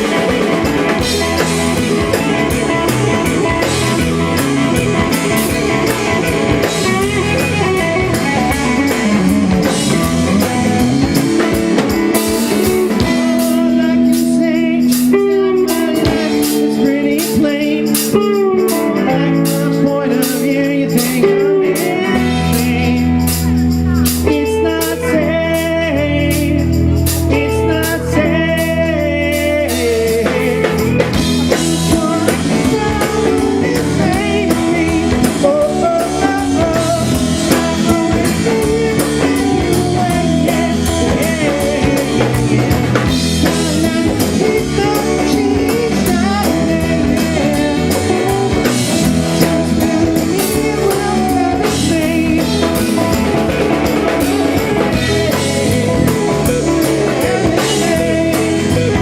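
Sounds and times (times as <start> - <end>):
drum kit: 0.0 - 59.0
electric guitars: 0.0 - 59.0
person singing lead vocal: 0.0 - 59.0.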